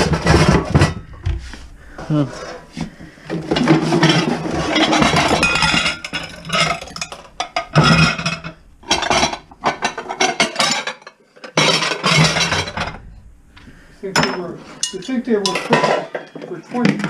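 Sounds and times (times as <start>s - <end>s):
metal pots and pans clattering: 0.0s - 13.1s, 13.7s - 17.0s.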